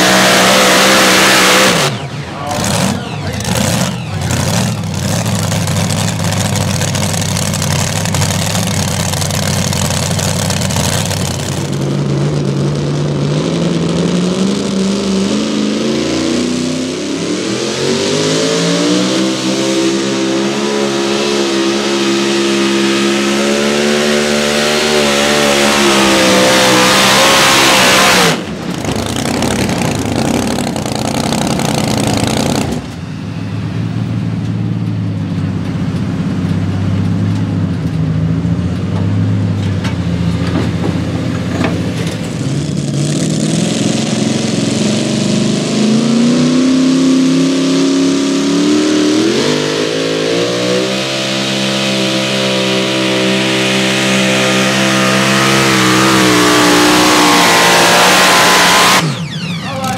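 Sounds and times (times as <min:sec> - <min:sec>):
truck engine revving up: 0:00.0 - 0:34.7, 0:35.8 - 0:59.9
lower engine running: 0:00.0 - 0:59.9
truck engine at full throttle: 0:00.0 - 0:59.9.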